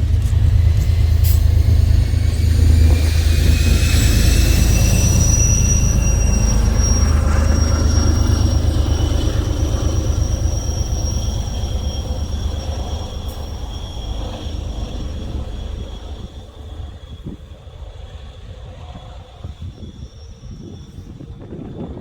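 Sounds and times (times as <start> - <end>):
high-pitched train whine: 0.0 - 22.0
passenger train rumbling past: 0.0 - 22.0.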